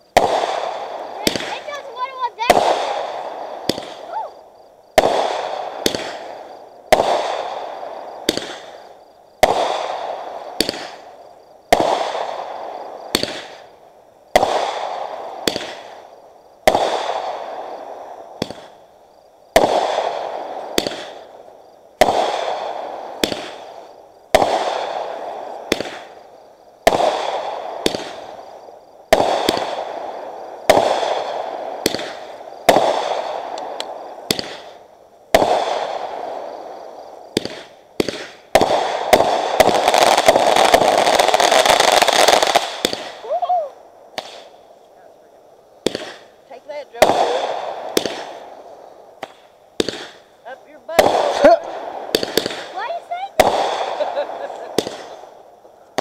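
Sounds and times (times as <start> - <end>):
fireworks bangs: 0.0 - 56.0
smaller firework cracks: 0.0 - 56.0.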